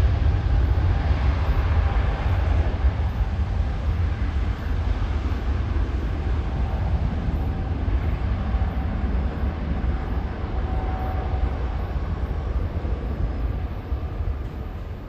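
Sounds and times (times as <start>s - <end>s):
jet engines rumbling on takeoff: 0.0s - 15.0s.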